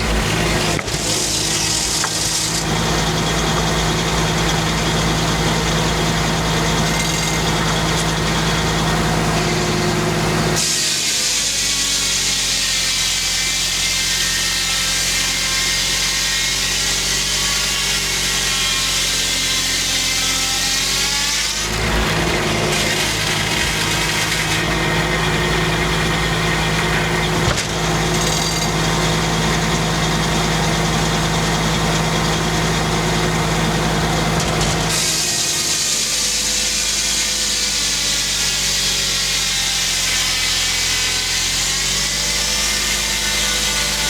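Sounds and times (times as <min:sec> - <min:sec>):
circular sawmill blade sawing log: 0:00.0 - 0:44.0.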